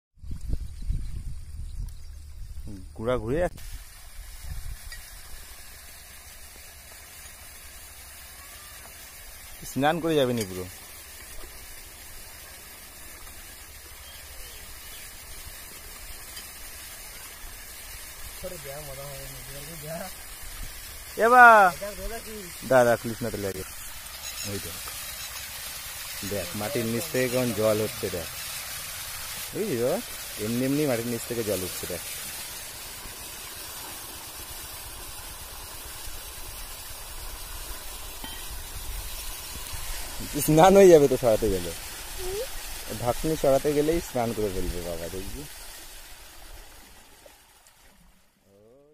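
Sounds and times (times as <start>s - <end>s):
water spray hissing: 3.5s - 48.0s.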